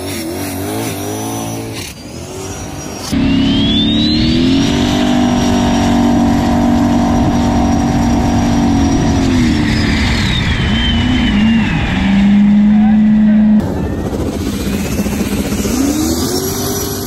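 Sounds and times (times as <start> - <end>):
high turbo whine: 0.0 - 17.0
boat engine running hard: 3.1 - 17.0.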